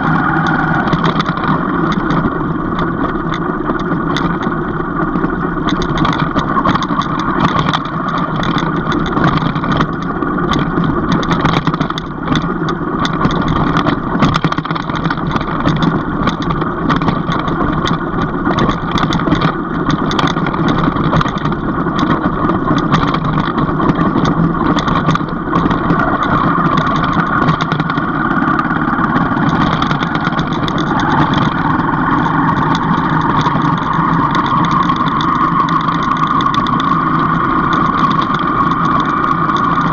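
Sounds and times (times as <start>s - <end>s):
rattles and knocks: 0.0s - 39.9s
vehicle engine running: 0.0s - 39.9s.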